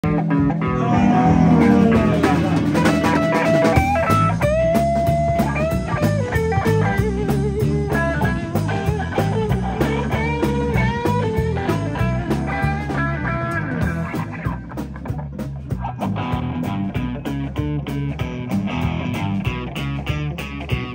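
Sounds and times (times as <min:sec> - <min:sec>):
bass guitar: 0:00.0 - 0:20.9
electric guitar lead: 0:00.0 - 0:20.9
drum kit with cymbals: 0:00.1 - 0:20.9.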